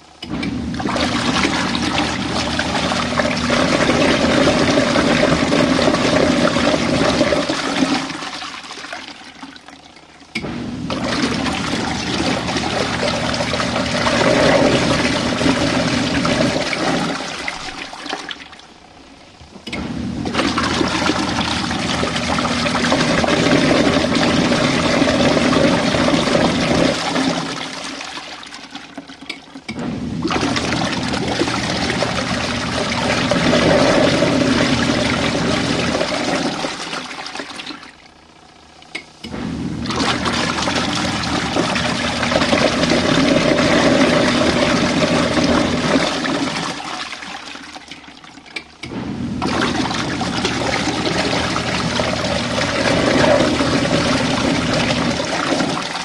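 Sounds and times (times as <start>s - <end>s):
washing machine churning water: 0.0s - 56.0s.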